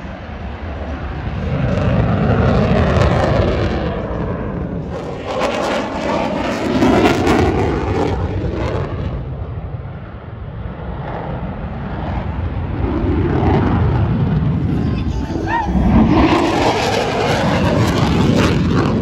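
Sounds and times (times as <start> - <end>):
fighter jet engine roar: 0.0 - 19.0.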